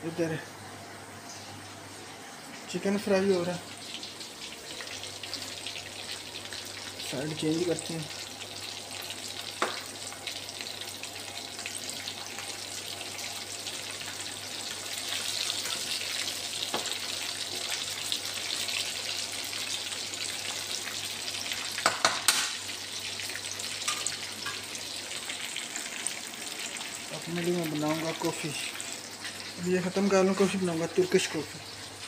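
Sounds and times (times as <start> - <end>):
chicken sizzling in oil: 1.3 - 32.0.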